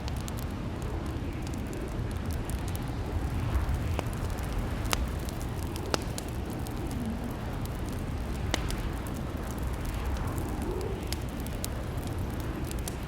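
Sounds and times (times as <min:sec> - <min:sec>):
fire crackling: 0:00.0 - 0:13.0
fire popping: 0:00.0 - 0:13.0.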